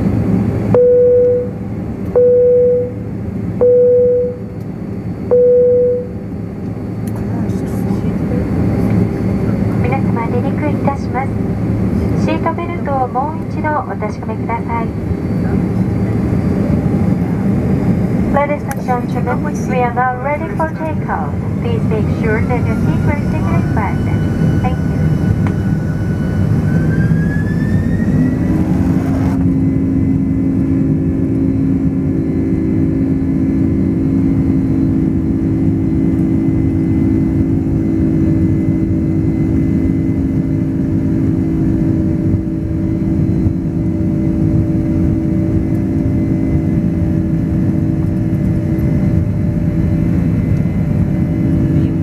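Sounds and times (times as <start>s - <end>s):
jet engine rumble: 0.0s - 52.0s
rising engine whine: 0.0s - 52.0s.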